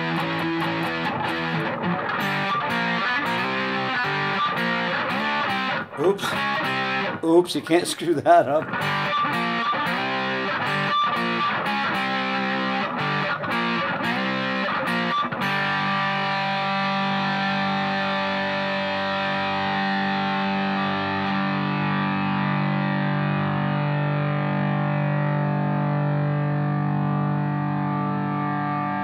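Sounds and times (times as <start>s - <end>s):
distorted electric guitar chords: 0.0s - 7.6s, 8.5s - 29.0s.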